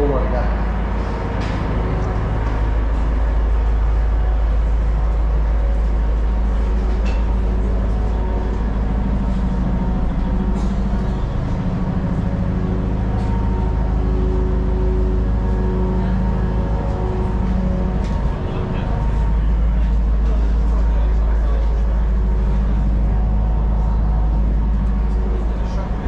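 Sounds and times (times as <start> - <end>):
ferry engines low drone: 0.0 - 26.0.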